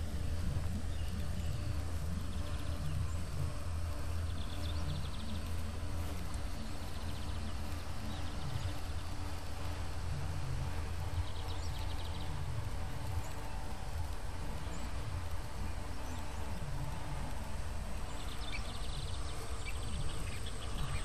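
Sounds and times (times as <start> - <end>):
birds chirping in trills: 0.0 - 21.0
high insect buzz: 0.0 - 21.0.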